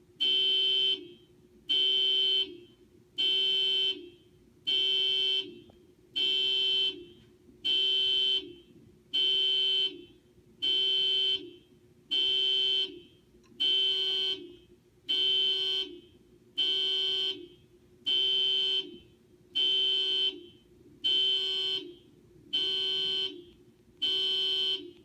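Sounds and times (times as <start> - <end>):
car alarm horn honking: 0.2 - 25.0.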